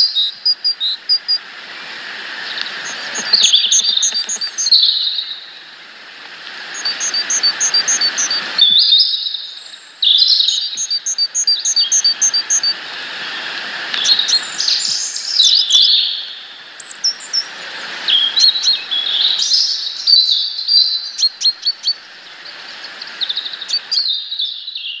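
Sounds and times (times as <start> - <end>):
songbirds chirping: 0.0 - 25.0
steady outdoor hiss: 0.0 - 25.0.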